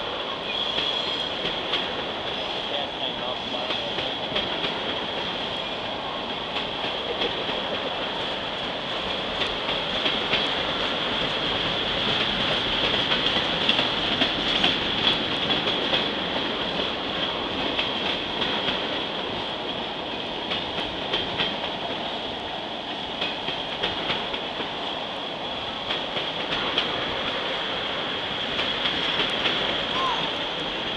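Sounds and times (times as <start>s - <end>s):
train wheels rumbling on rails: 0.0s - 30.9s
wheels clicking over rail joints: 3.4s - 22.1s, 22.9s - 30.9s.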